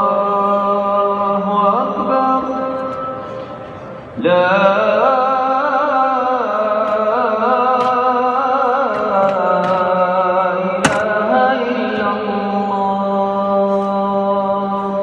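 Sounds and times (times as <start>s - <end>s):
man chanting call to prayer: 0.0s - 3.3s, 4.2s - 15.0s.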